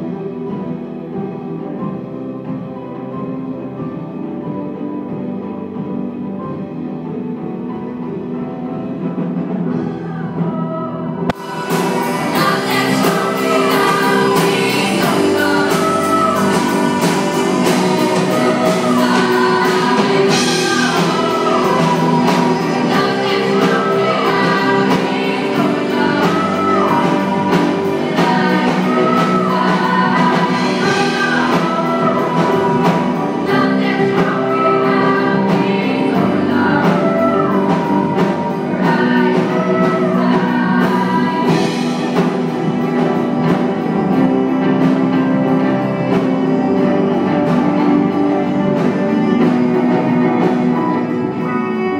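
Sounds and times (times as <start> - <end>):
live band playing: 0.0 - 51.9
steady drum beat: 9.5 - 51.9
people singing: 9.7 - 51.9.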